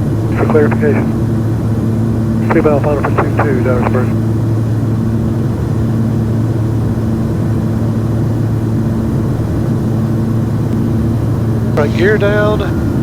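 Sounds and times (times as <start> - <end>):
propeller plane engines droning: 0.0 - 13.0.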